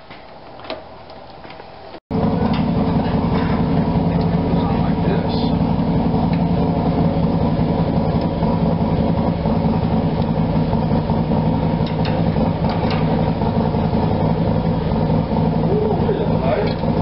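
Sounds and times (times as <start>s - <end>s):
machine humming: 1.0s - 17.0s.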